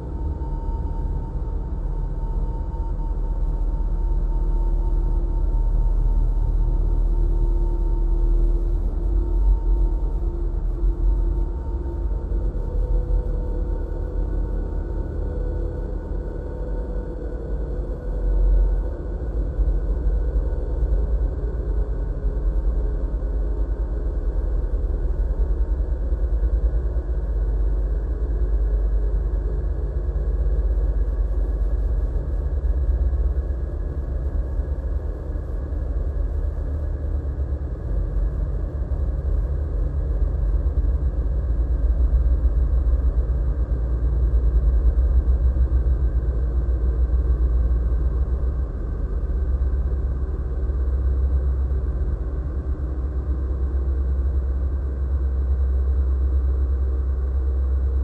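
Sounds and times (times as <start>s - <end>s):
deep rumbling electronic drone: 0.0s - 58.0s.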